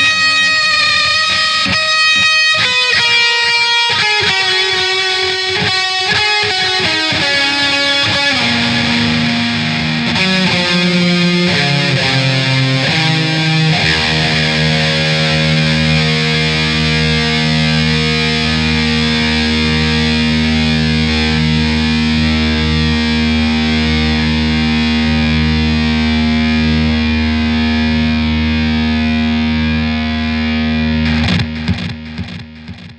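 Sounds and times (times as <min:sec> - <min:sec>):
distorted electric guitar: 0:00.0 - 0:32.9.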